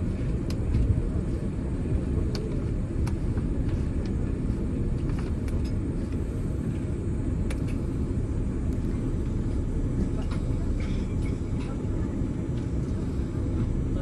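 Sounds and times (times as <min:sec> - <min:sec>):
aircraft cabin low rumble: 0:00.0 - 0:14.0.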